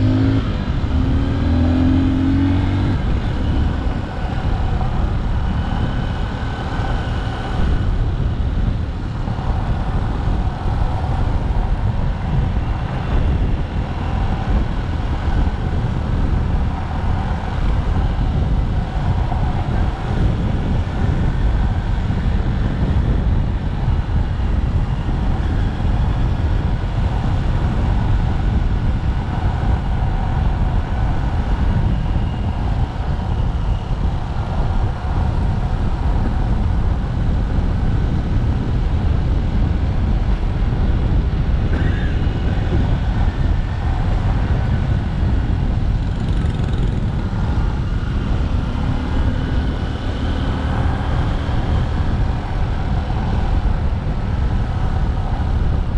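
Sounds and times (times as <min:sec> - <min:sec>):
heavy low rumble: 0:00.0 - 0:55.9
motorcycle engine running: 0:00.0 - 0:55.9.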